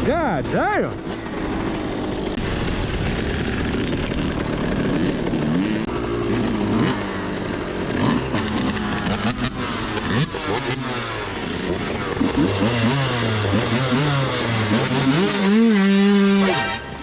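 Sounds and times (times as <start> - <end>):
steady rushing noise: 0.0 - 13.6
dirt bike engine revving: 0.0 - 17.0.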